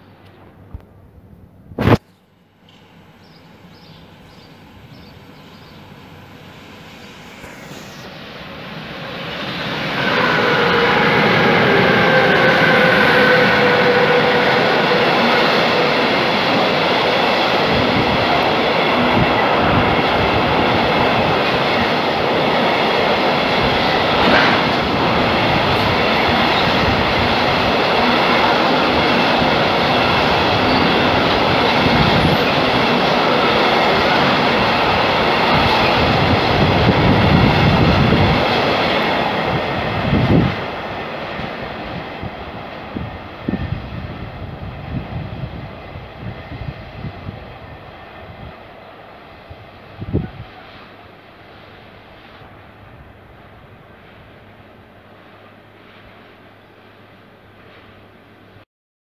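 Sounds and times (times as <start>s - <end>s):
train rolling rumble on rails: 0.0s - 58.6s
locomotive whine: 2.8s - 58.5s.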